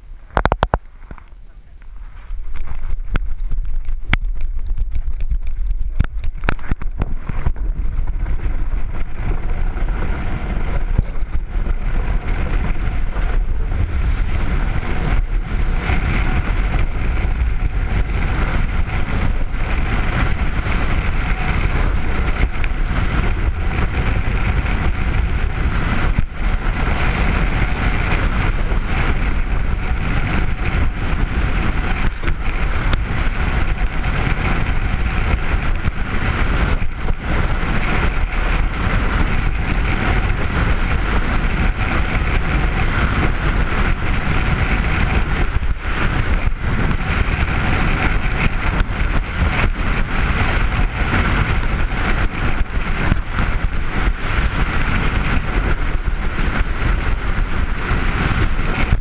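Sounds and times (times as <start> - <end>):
wind over microphone: 0.0 - 59.0.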